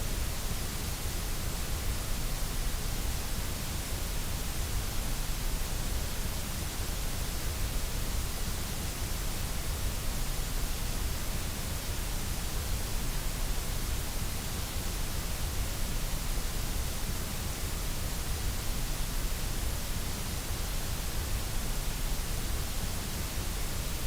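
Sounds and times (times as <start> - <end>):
white noise hiss: 0.0 - 24.0.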